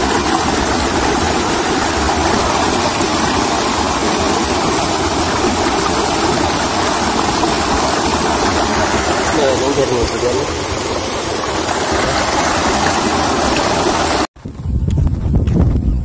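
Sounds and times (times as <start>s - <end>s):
stream rushing over boulders: 0.0s - 14.3s.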